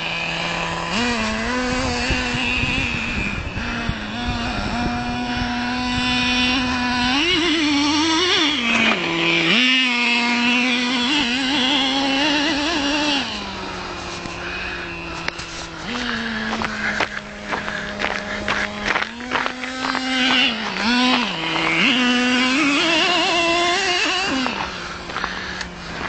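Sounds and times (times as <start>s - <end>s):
small nitro engine revving: 0.0s - 26.0s.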